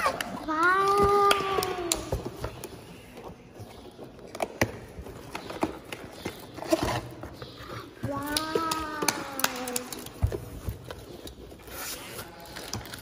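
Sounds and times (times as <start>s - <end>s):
boxes and books handled: 0.0s - 13.0s.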